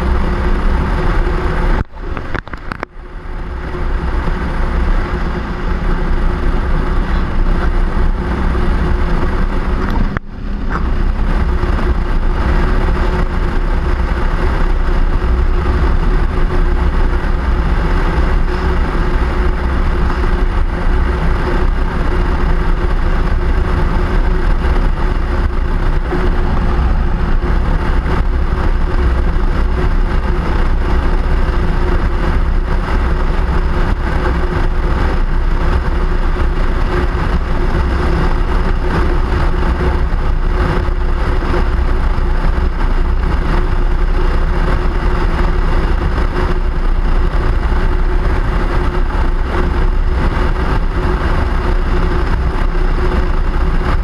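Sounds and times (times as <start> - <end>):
constant hum: 0.0 - 54.0
vehicle running noise: 0.0 - 54.0
wind rumble on microphone: 0.0 - 54.0.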